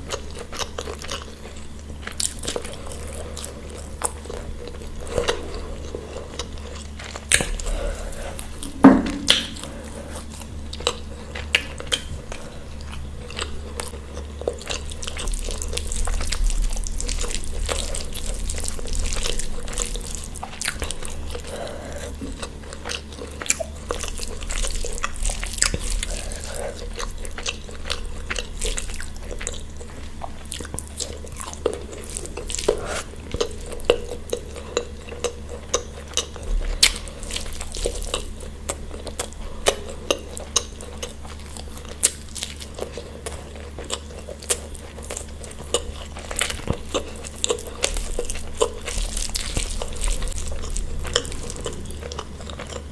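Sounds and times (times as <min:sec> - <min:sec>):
chewing and biting: 0:00.0 - 0:08.7, 0:10.7 - 0:52.9.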